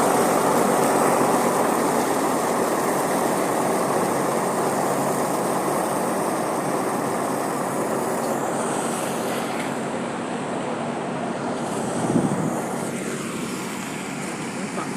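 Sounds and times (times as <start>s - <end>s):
road construction machinery running: 0.0s - 14.9s.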